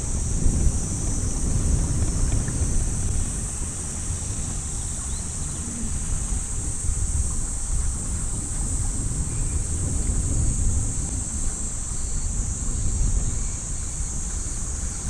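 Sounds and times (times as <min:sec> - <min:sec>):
steady high-pitched hiss: 0:00.0 - 0:15.0
wind buffeting microphone: 0:00.0 - 0:15.0.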